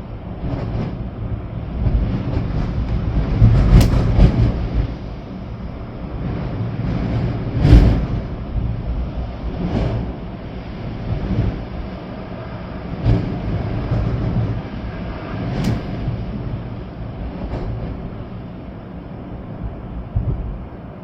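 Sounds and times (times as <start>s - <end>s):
rain: 0.0s - 21.0s
wind gusting through trees: 0.0s - 21.0s.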